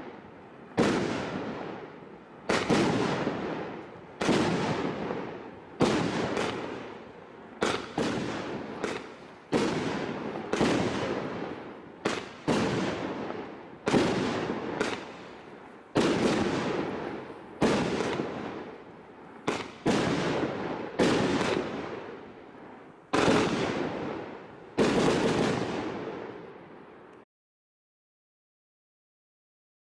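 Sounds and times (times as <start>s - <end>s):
firework bangs: 0.0s - 22.4s, 23.1s - 26.7s.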